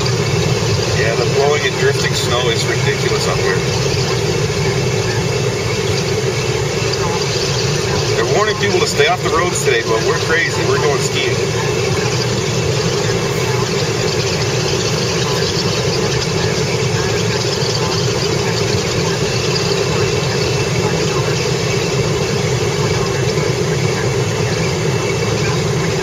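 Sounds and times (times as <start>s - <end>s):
car road and engine drone: 0.0s - 26.0s.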